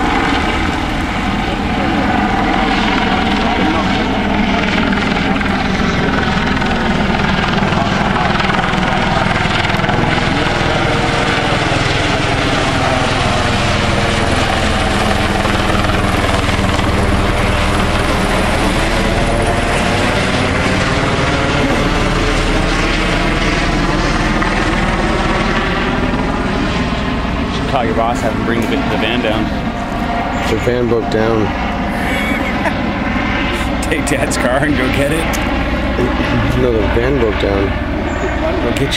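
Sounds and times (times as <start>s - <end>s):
helicopter rotor and turbine noise: 0.0s - 38.9s.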